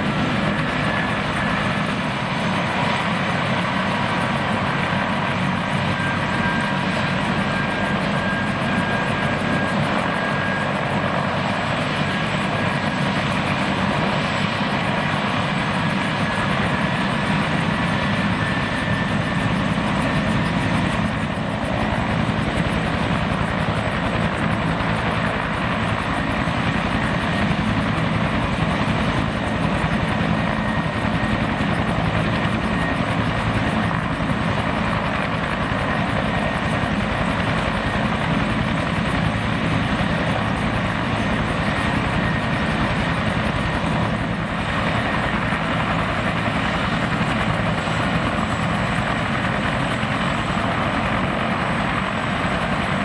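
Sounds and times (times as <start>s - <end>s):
helicopter rotor beat: 0.0s - 53.0s.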